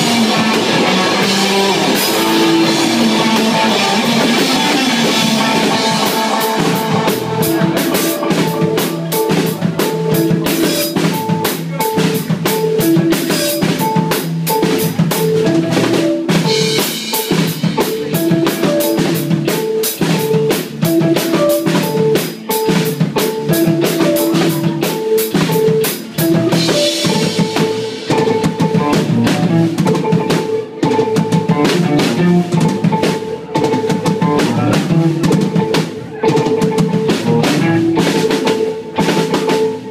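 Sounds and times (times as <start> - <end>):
repeating guitar riff: 0.0 - 39.3
drum kit beating: 0.0 - 39.9
live rock band playing: 0.0 - 39.9.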